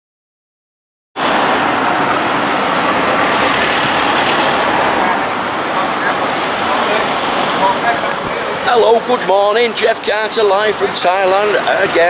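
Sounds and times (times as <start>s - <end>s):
street traffic: 1.2s - 12.0s.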